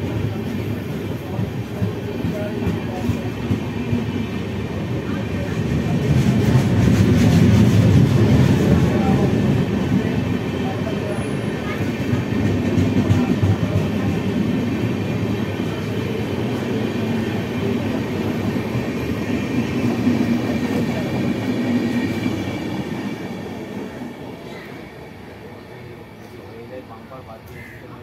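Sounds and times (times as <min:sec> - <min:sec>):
train wheels rumbling on rail: 0:00.0 - 0:27.7.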